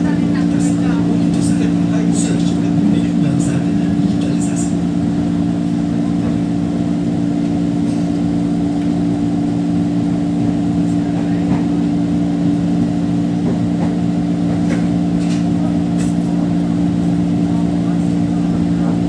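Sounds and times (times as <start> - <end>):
electric train hum: 0.0 - 19.0
train running rumble: 0.0 - 19.0.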